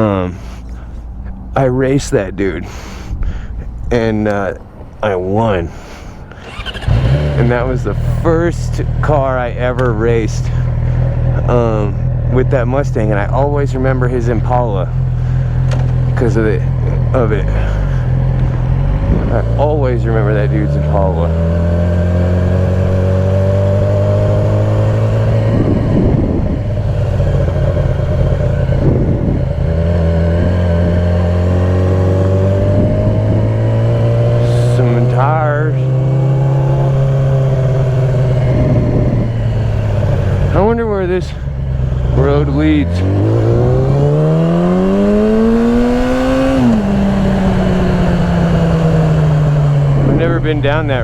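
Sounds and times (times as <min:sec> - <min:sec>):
motorcycle engine running: 0:06.4 - 0:51.0.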